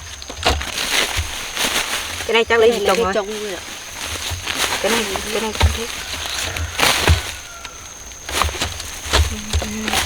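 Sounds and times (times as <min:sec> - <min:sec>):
cane stalks knocking and rustling: 0:00.0 - 0:10.0.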